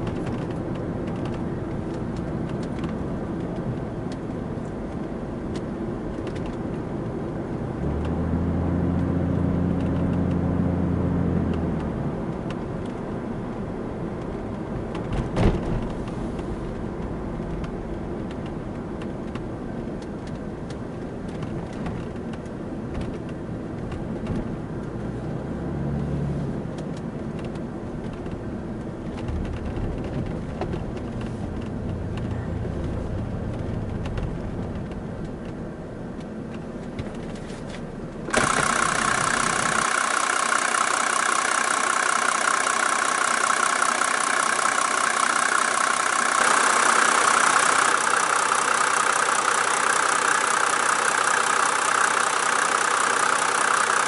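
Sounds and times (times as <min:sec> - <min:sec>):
diesel car engine drone: 0:00.0 - 0:54.0
road noise: 0:00.0 - 0:54.0.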